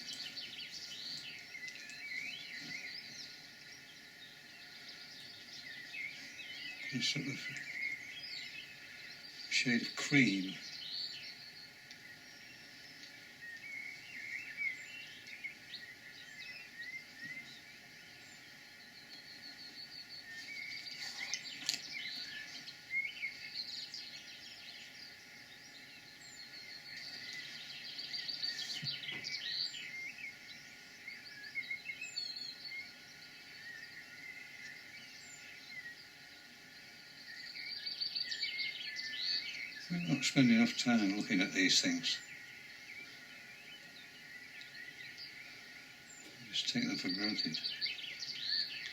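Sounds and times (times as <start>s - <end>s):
songbirds chirping and trilling: 0.0s - 48.9s.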